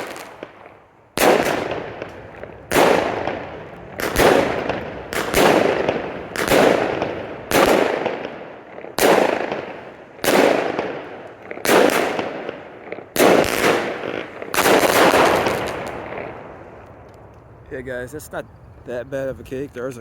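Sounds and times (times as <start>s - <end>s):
firework bangs echoing: 0.0s - 17.1s.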